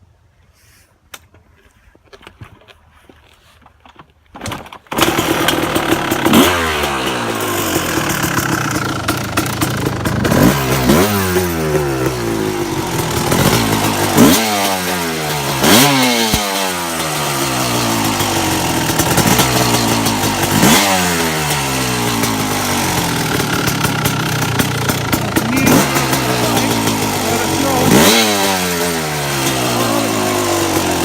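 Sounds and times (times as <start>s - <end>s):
motorcycle engine idling and revving: 4.9s - 31.0s.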